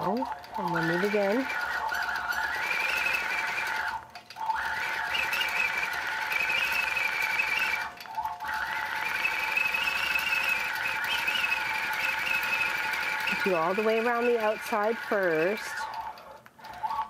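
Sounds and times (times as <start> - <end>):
quilting machine whine: 0.0 - 17.0.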